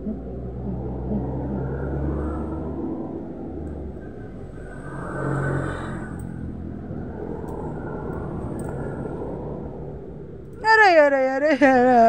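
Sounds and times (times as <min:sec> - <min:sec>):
low rumble: 0:00.0 - 0:10.7
steady low hum: 0:00.0 - 0:12.0.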